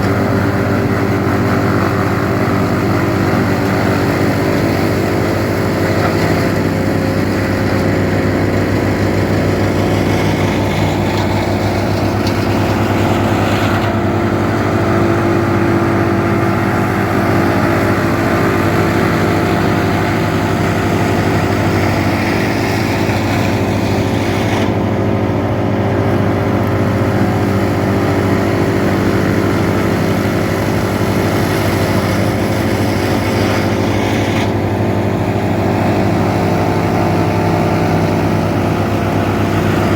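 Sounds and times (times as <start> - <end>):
wood chipper droning: 0.0 - 39.9.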